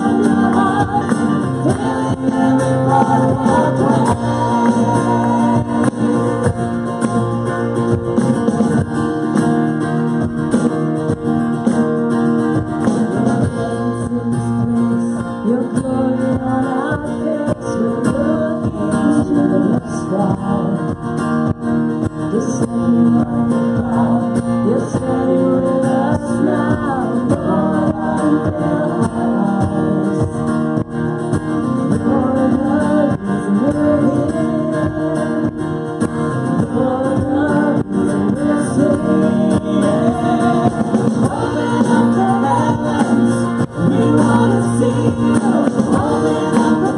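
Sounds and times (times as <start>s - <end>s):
woman singing: 0.0s - 7.0s, 13.4s - 21.6s, 22.3s - 30.5s, 31.9s - 46.9s
drum kit: 0.0s - 46.9s
electric guitar: 0.0s - 46.9s
strummed acoustic guitar: 0.0s - 46.9s.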